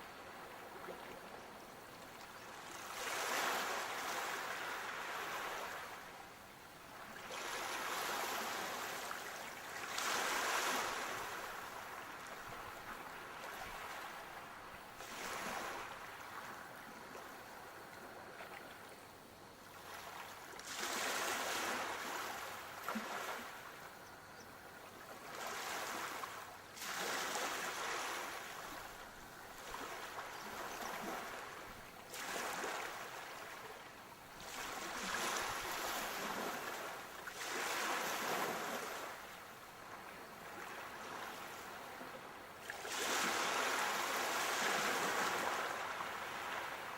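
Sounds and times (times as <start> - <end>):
sea waves breaking on shore: 0.0 - 19.0, 19.6 - 24.0, 25.0 - 46.9.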